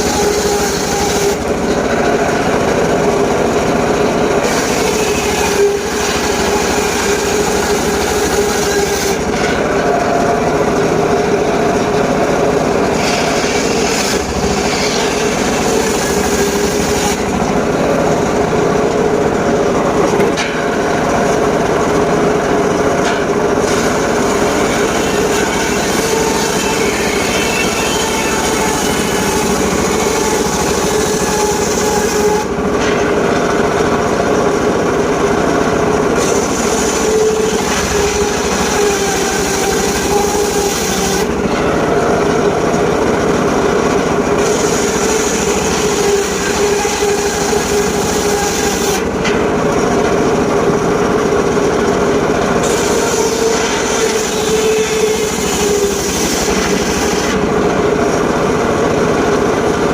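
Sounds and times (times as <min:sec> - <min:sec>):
sawmill sawing wood: 0:00.0 - 0:59.8.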